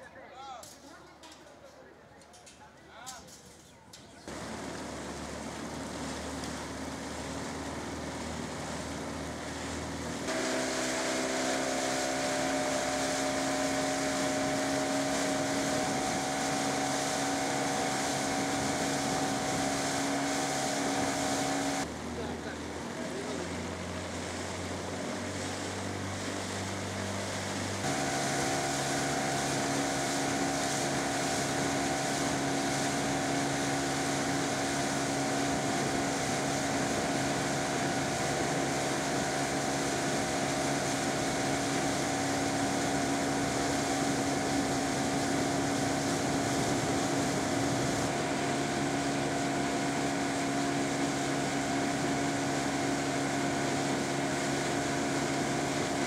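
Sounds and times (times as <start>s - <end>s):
motorboat engine humming: 4.2s - 56.0s
wind and water hiss: 4.3s - 56.0s.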